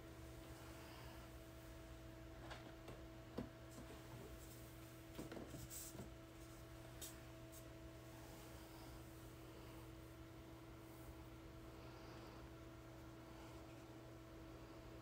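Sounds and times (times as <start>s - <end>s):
incubator fan hum: 0.0s - 15.0s.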